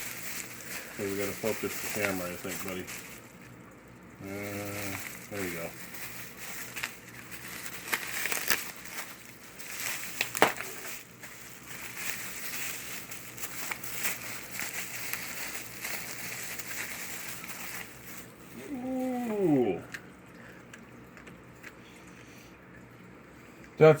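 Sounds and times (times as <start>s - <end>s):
packaging crinkling: 0.0s - 19.8s.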